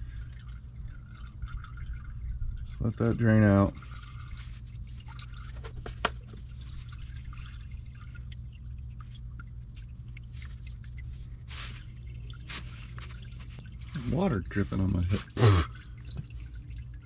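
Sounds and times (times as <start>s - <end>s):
low steady hum: 0.0s - 17.0s
oil trickling and dripping: 0.0s - 17.0s.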